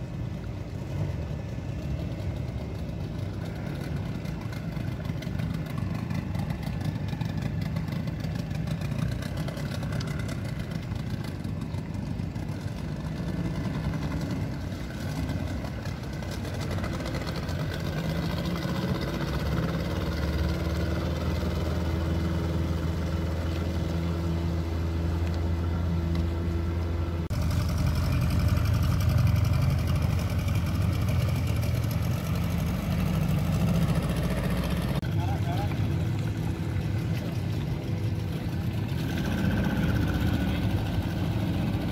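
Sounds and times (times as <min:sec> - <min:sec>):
boat engine humming: 0:00.0 - 0:41.9.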